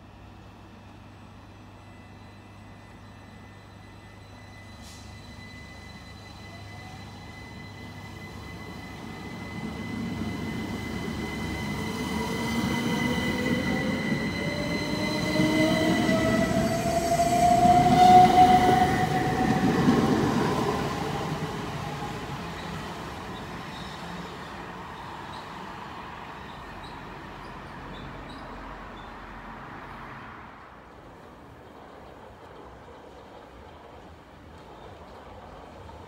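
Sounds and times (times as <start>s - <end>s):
wheels rumbling on rail: 4.4s - 36.0s.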